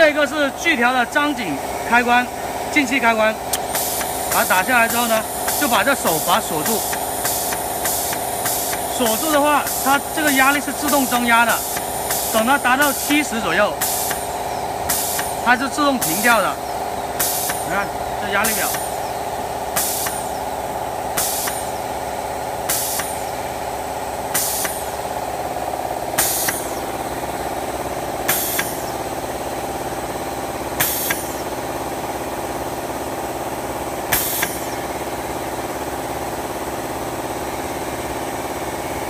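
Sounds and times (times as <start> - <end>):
steady hum: 0.0 - 37.8
pump air hiss: 0.0 - 39.0.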